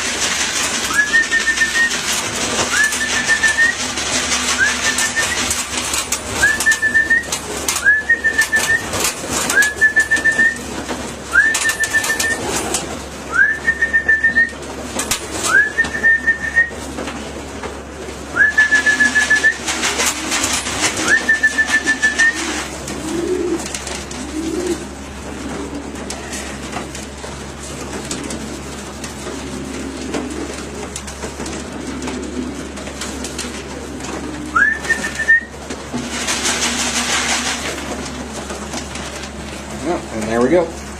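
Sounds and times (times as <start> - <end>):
feed can shaken: 0.0 - 40.9
pigeons cooing: 0.0 - 40.9.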